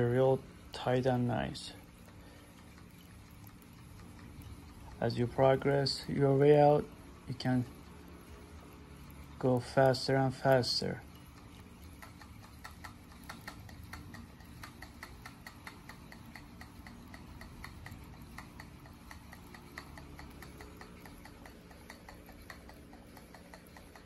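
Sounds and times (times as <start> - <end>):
fishing reel clicking: 1.0 - 24.0.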